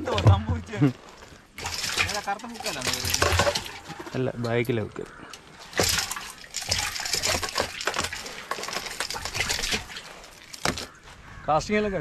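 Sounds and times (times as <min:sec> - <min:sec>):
water splashing and sloshing: 0:00.0 - 0:11.4.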